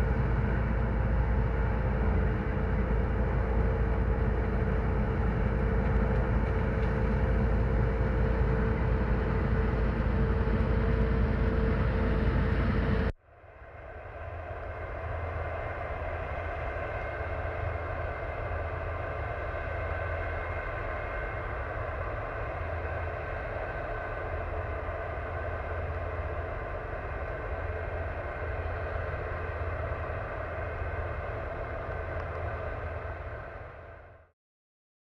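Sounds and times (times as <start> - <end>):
combine harvester engines droning: 0.0 - 34.3
deep hum: 0.0 - 34.3.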